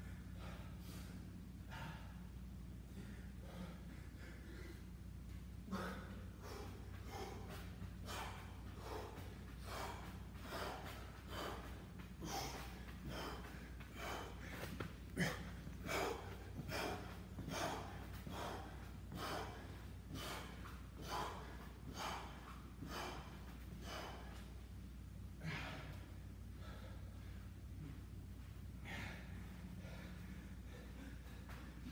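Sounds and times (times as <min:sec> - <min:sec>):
man breathing hard: 0:00.0 - 0:31.9
steady low hum: 0:00.0 - 0:31.9.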